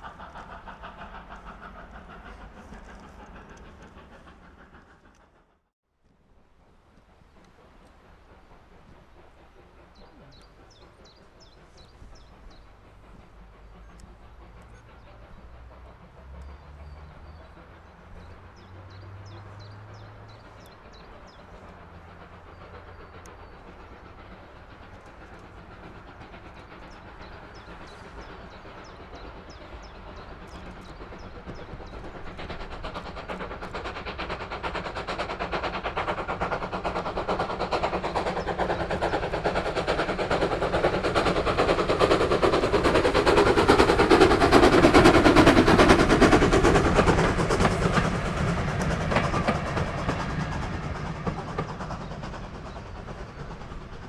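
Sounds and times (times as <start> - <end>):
steam engine chuffing: 0.0 - 54.0
train carriages passing: 0.0 - 54.0.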